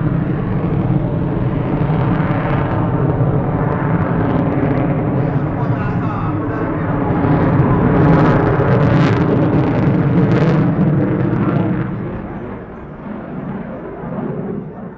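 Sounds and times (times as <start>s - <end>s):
jet engine rumbling past: 0.0s - 14.9s.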